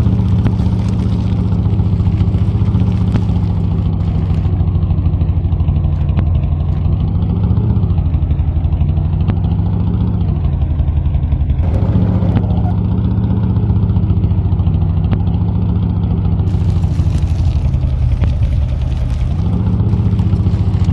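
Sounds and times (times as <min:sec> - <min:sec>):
heavy truck engine running: 0:00.0 - 0:20.9.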